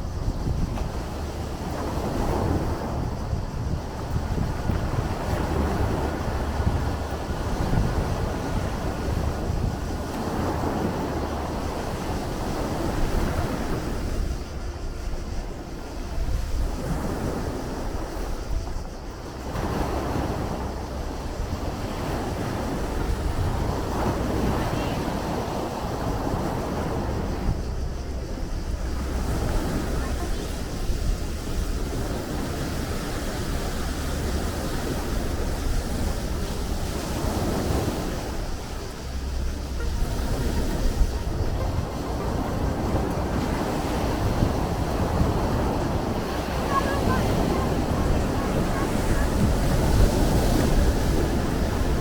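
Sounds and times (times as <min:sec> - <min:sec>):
sea waves breaking on shore: 0:00.0 - 0:52.0
wind rumble on microphone: 0:00.0 - 0:52.0.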